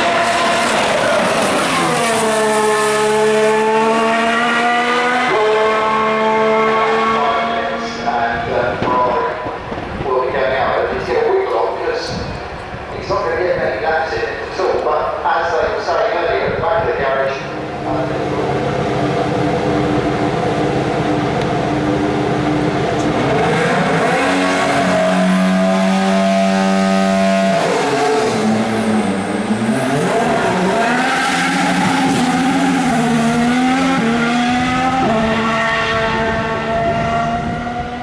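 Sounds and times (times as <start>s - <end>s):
racing car engine at high revs: 0.0s - 9.8s, 17.4s - 38.0s.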